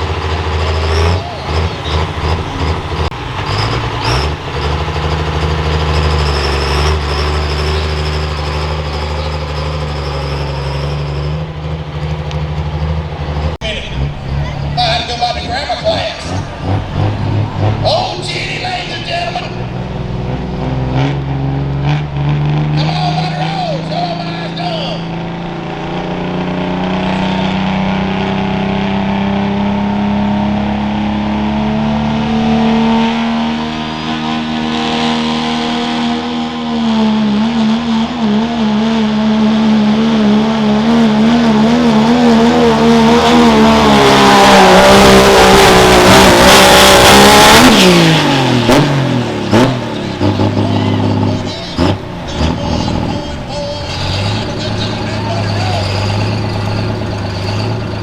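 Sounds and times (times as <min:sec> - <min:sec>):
diesel truck engine at full throttle: 0:00.0 - 0:58.0.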